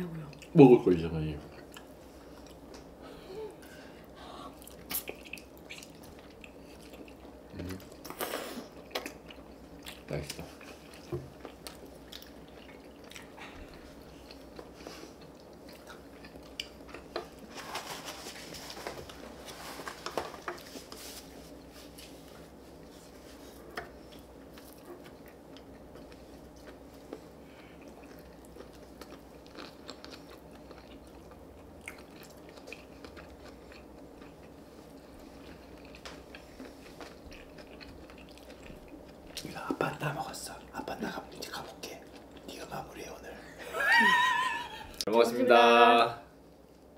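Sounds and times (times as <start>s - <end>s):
chewing with soft crunches: 1.4s - 3.0s, 4.5s - 17.6s, 18.3s - 42.9s.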